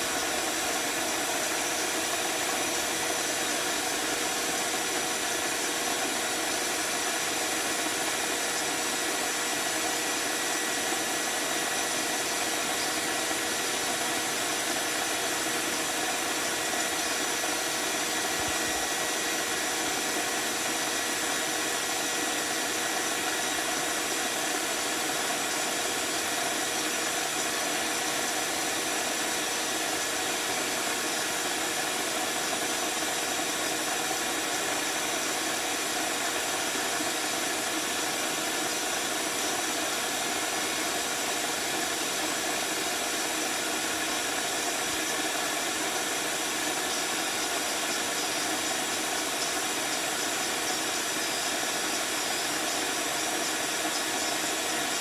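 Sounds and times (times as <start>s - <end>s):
vacuum motor whining: 0.0s - 55.0s.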